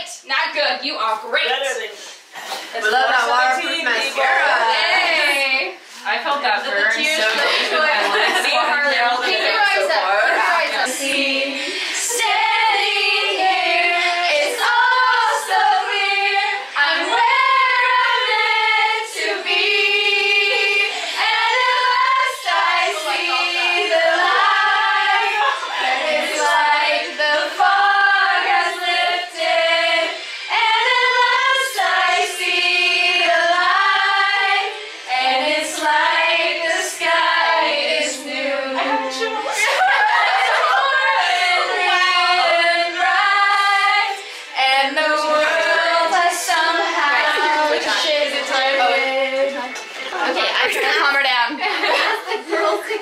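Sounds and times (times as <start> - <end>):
women singing together: 2.3 - 53.0.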